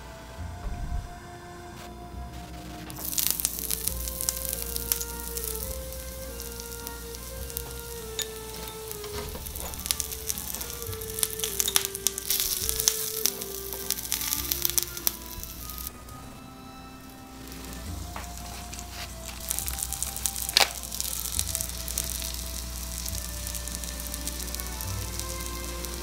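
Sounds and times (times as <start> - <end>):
soft background music: 0.0 - 26.0
fish frying in hot oil: 3.0 - 15.9, 17.4 - 26.0.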